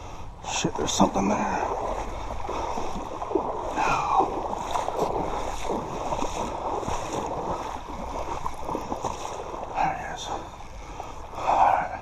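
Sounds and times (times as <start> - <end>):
water sloshing and splashing: 0.6 - 12.0.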